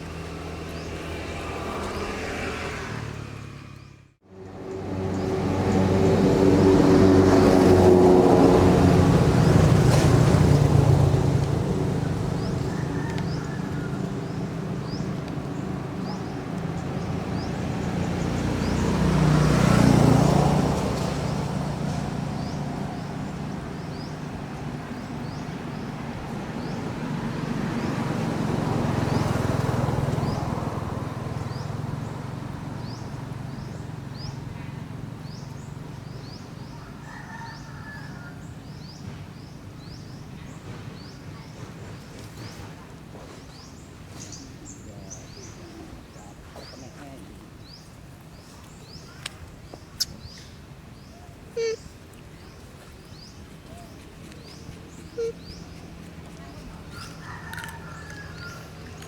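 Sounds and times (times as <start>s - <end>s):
motor vehicles passing: 0.0s - 59.0s.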